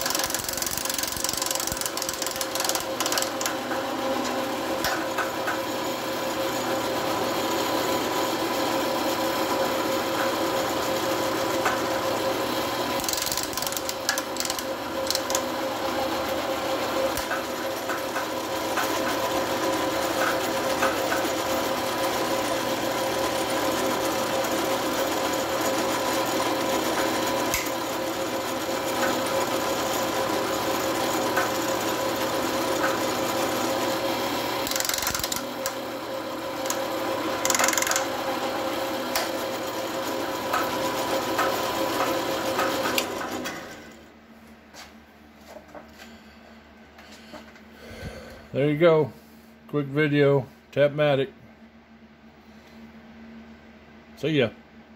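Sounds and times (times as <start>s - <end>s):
drill press whirring: 0.0s - 44.2s.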